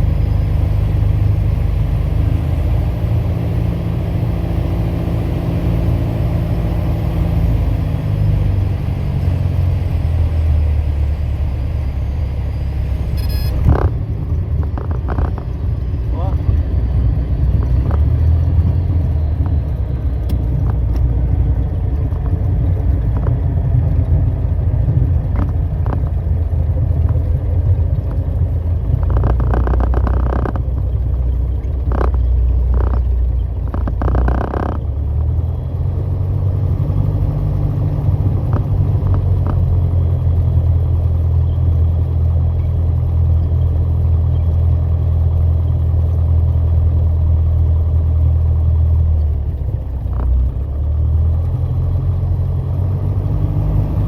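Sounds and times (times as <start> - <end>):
aircraft engine drone in cabin: 0.0 - 54.0.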